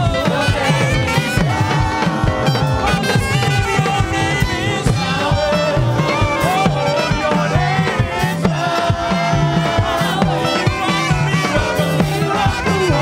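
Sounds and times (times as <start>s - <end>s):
bass line: 0.0s - 13.0s
drum beat: 0.0s - 13.0s
praise band music: 0.0s - 13.0s
voices singing: 0.0s - 13.0s.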